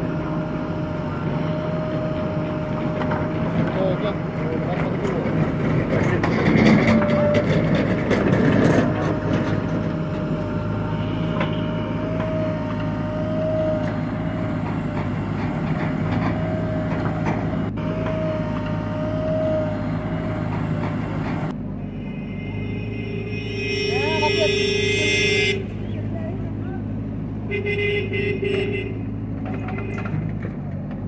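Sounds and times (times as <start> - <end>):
diesel engine running: 0.0 - 31.0
steady engine whine: 0.0 - 31.0.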